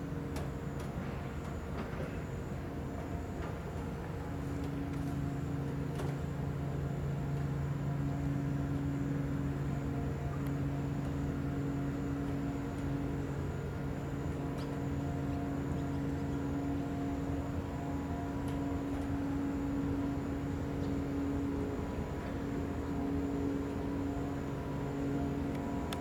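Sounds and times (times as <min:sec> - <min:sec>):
ship diesel machinery droning: 0:00.0 - 0:26.0.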